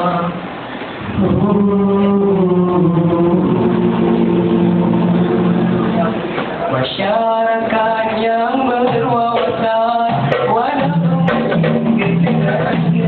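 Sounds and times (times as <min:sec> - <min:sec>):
male vocal group singing in harmony: 0:00.0 - 0:13.0.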